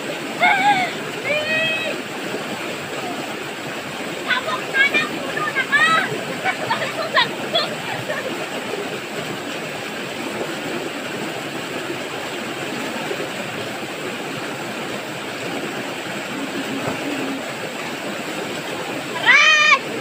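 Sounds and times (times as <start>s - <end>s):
river water rushing over rocks: 0.0s - 20.0s.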